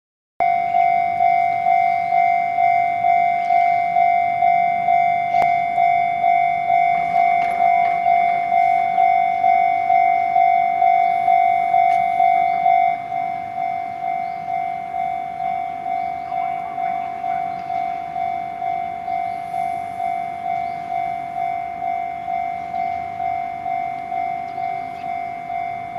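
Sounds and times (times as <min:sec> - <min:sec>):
level crossing electronic bell: 0:00.4 - 0:25.9.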